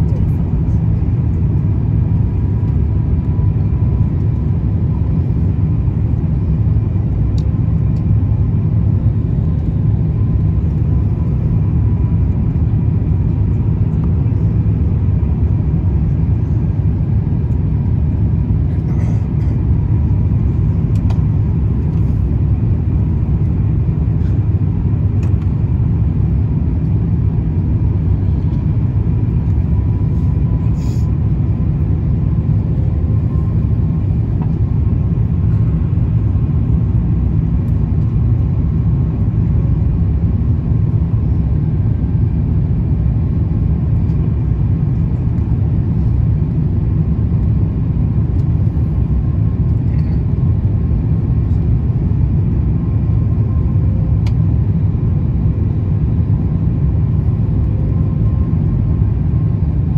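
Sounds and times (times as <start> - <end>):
airplane cabin rumble: 0.0 - 59.9
faint engine whine: 0.0 - 59.9.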